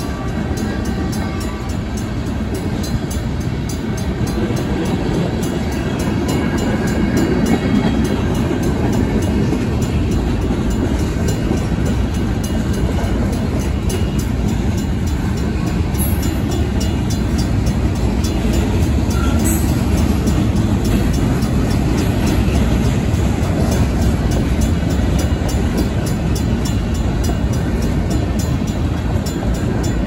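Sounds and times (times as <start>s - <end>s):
crossing bell ringing: 0.0s - 30.0s
train wheels rumbling on rails: 0.0s - 30.0s.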